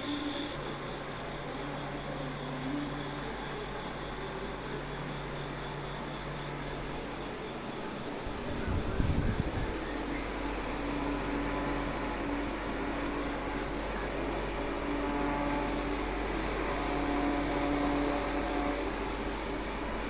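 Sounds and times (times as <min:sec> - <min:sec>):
ceiling fan whirring: 0:00.0 - 0:20.0.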